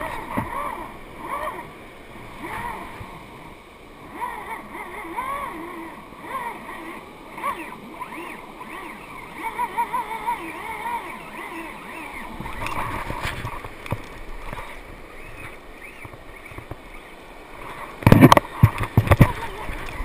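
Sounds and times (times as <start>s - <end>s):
fishing reel drag whining: 0.0s - 3.2s, 4.0s - 20.0s
surf washing: 0.0s - 20.0s.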